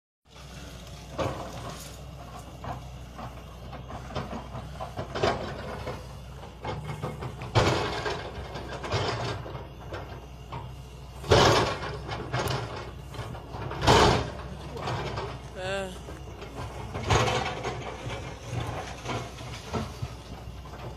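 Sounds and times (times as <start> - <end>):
diesel engine low hum: 0.2 - 20.9
rough crashing noises: 0.3 - 20.9.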